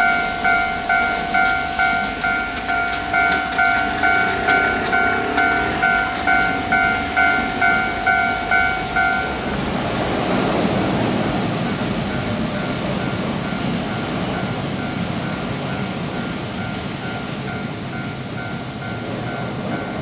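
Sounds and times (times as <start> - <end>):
level crossing warning bell dinging: 0.0 - 9.8, 12.0 - 20.0
train wheels on rails: 0.0 - 20.0.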